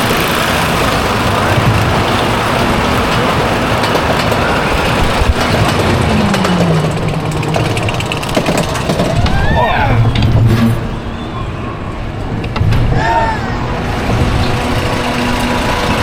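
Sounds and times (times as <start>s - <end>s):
roller coaster cars rumbling: 0.0s - 16.0s.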